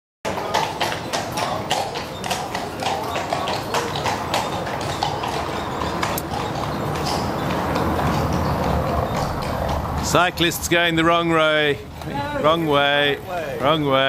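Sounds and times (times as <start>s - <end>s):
hooves clip-clopping on cobblestones: 0.3s - 14.0s.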